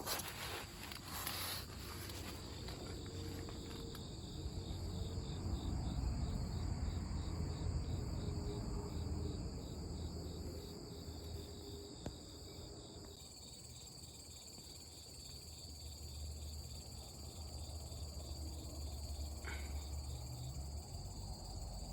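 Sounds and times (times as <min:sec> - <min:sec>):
crickets and insects chirping: 0:00.0 - 0:21.9.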